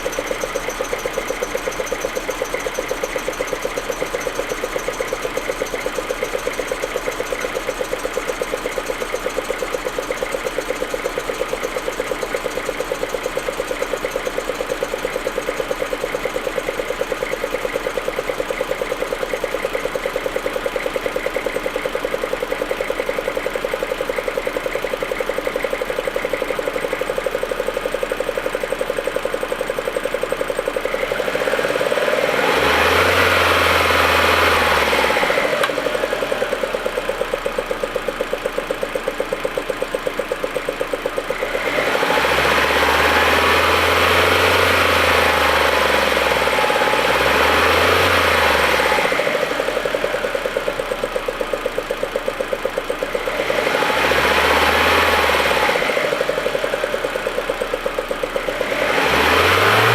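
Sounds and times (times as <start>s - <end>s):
car engine idling roughly: 0.0s - 59.9s.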